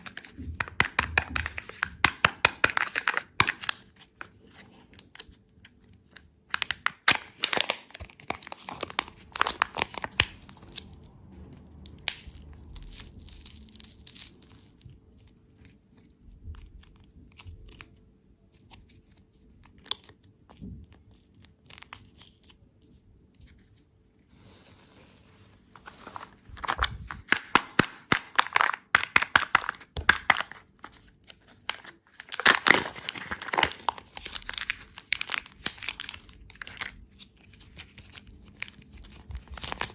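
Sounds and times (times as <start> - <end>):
plastic wrapper crinkling: 0.0 - 18.0, 18.6 - 39.9.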